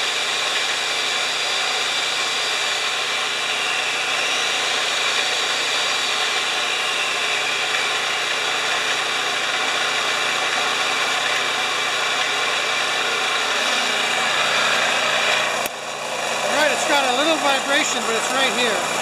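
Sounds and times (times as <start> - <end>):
portable generator running: 0.0 - 19.0.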